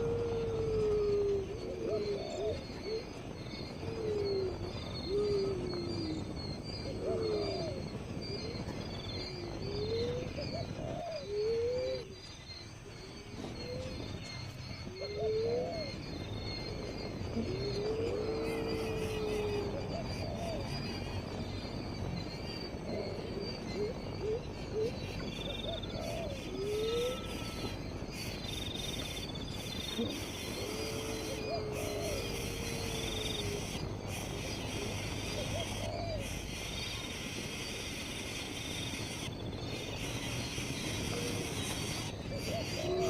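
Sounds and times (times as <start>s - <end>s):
high insect drone with trills: 0.0s - 43.0s.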